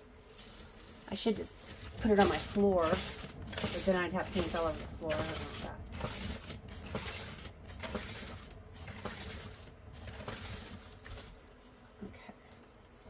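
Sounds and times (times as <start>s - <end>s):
plastic sheeting rustling: 0.0s - 11.7s.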